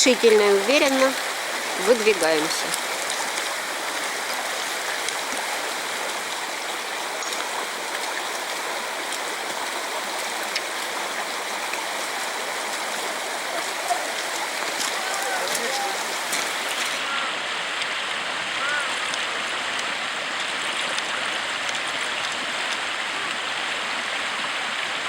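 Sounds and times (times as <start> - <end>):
small river rushing: 0.0 - 25.0.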